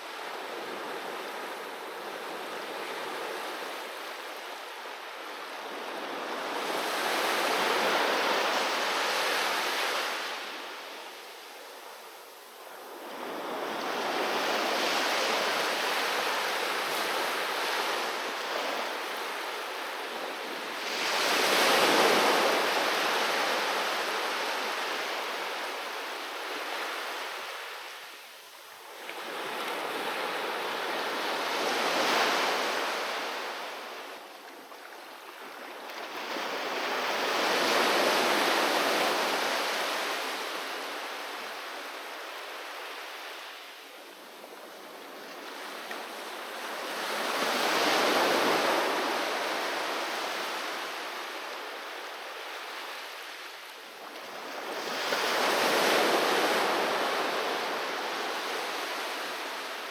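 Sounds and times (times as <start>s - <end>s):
sea waves breaking on a beach: 0.0s - 59.9s.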